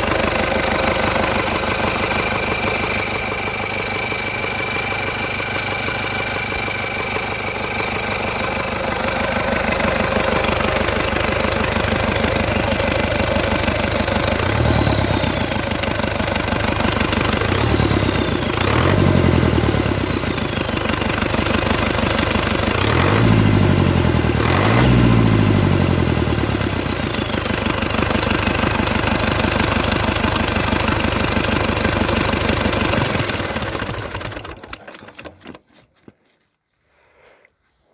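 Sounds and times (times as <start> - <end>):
engine revving: 0.0 - 30.6, 31.2 - 34.6
diesel truck engine idling: 0.0 - 34.6.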